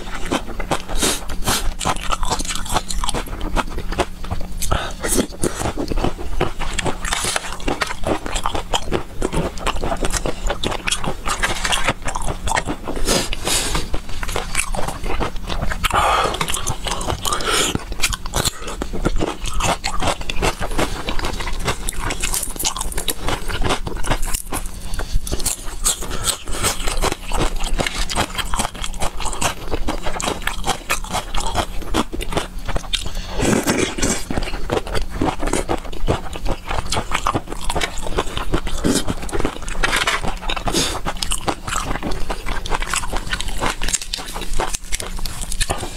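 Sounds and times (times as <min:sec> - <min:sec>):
wet chewing and crunching: 0:00.0 - 0:45.9.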